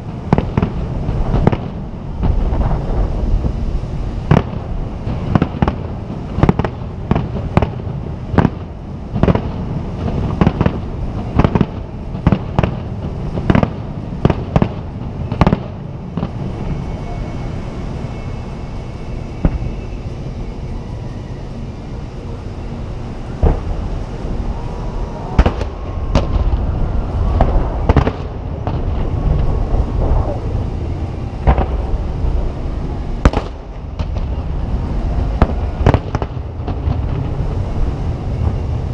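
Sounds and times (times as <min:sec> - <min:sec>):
fireworks bursting bangs: 0:00.0 - 0:20.4, 0:23.0 - 0:38.8
steady low rumble: 0:00.0 - 0:38.9.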